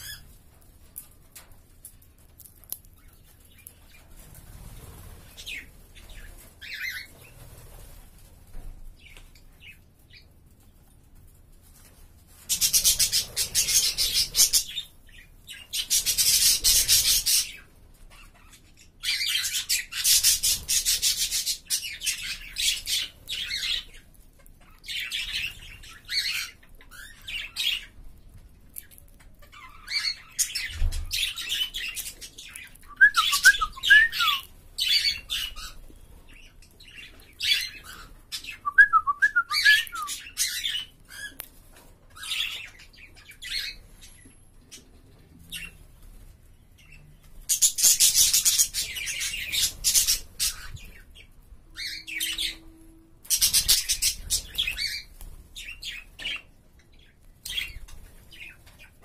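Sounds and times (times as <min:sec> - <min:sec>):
parakeets chirping and chattering: 0:00.0 - 0:10.4, 0:12.4 - 0:46.1, 0:46.7 - 0:59.0.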